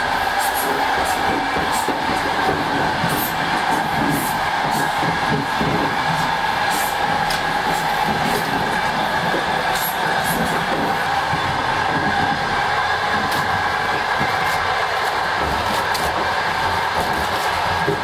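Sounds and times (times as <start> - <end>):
rail car running noise: 0.0 - 18.0.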